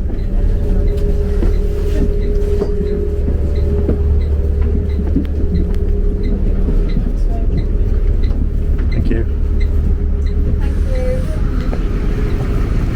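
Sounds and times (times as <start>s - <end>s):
vehicle rumble and hum: 0.0s - 12.9s.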